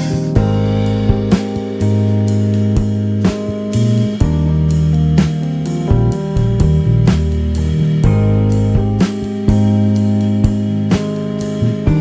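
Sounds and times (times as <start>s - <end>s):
jazz music with bass: 0.0s - 12.0s.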